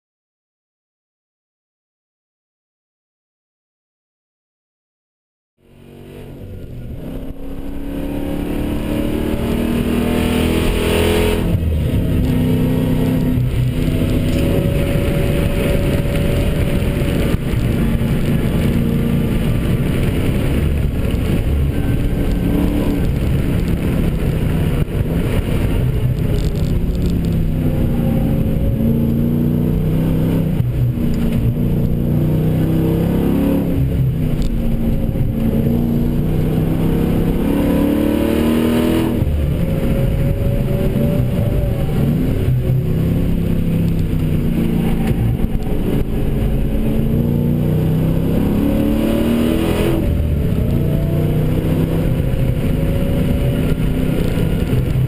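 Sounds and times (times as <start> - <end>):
car engine revving from cabin: 5.7 - 55.0.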